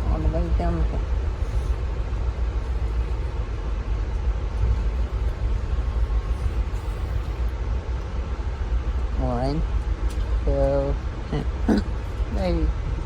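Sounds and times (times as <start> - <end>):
train rumble inside coach: 0.0 - 13.0.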